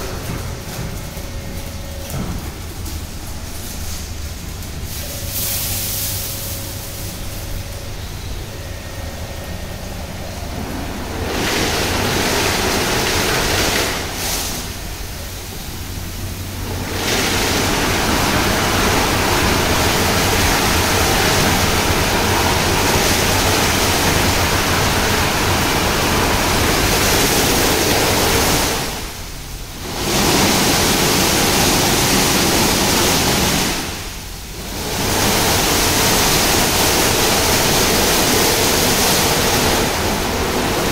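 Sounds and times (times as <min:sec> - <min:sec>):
car wash brushes and water spray: 0:00.0 - 0:07.8, 0:08.8 - 0:40.9
low machine hum: 0:00.0 - 0:40.9.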